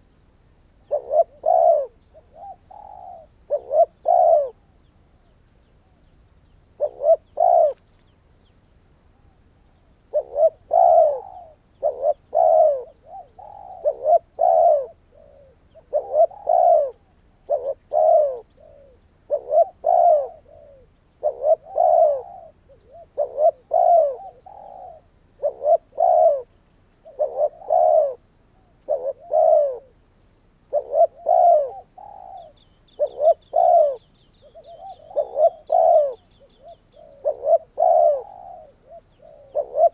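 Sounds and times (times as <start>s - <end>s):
faint high chirping: 0.0s - 39.9s
dove cooing: 0.8s - 5.0s, 6.7s - 7.8s, 9.2s - 39.9s.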